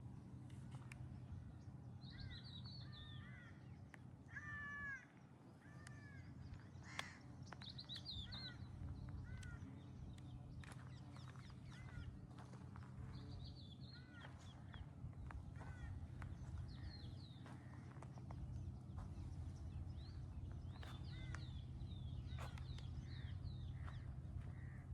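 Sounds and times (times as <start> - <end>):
low background hum: 0.0 - 24.9
birds calling: 2.1 - 24.9.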